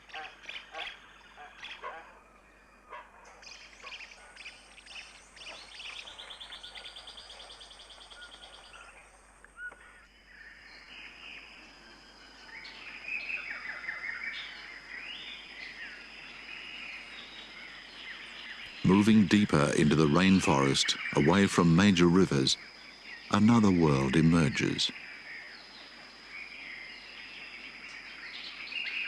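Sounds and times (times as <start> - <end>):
birds calling: 0.0 - 11.1, 12.4 - 29.0.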